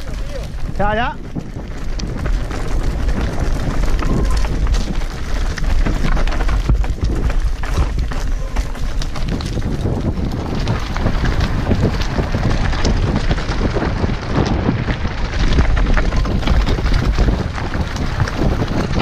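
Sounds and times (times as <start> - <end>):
bike clattering and rattling: 0.0 - 19.0
tyres crunching on rocky trail: 0.0 - 19.0
wind buffeting microphone: 0.0 - 19.0.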